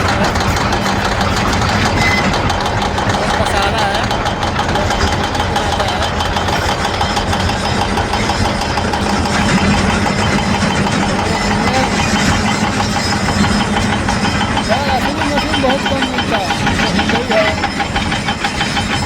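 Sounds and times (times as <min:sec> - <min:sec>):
excavator diesel engines rumbling: 0:00.0 - 0:19.0.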